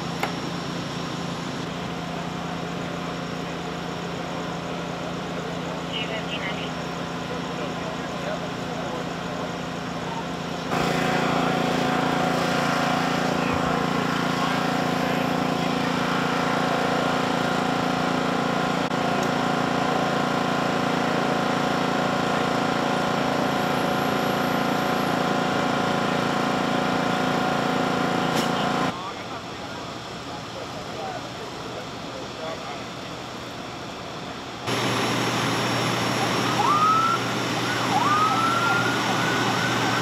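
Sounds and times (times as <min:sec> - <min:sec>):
vehicle engine idling: 0:00.0 - 0:40.0.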